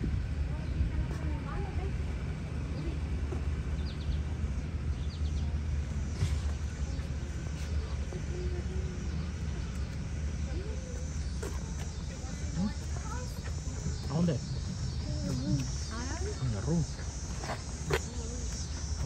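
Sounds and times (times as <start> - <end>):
faint distant voices: 0.1 - 19.0.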